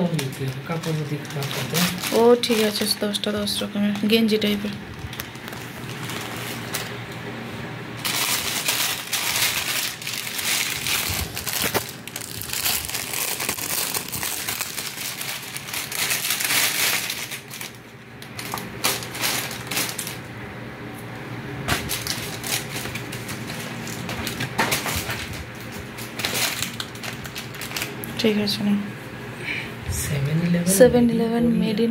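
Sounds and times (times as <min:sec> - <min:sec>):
plastic bags crinkling: 0:00.0 - 0:07.2, 0:07.9 - 0:20.3, 0:21.6 - 0:28.6.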